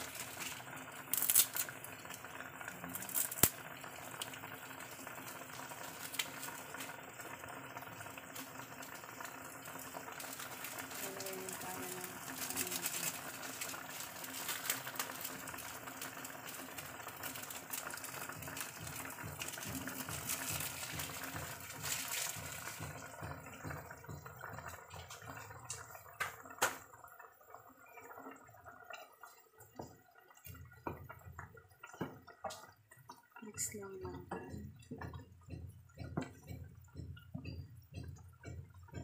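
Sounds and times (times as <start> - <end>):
liquid bubbling in a pot: 0.0 - 39.0.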